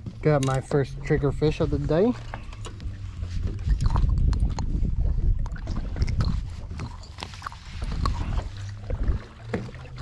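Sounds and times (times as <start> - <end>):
low rumble: 0.0 - 10.0
water noise: 0.0 - 10.0.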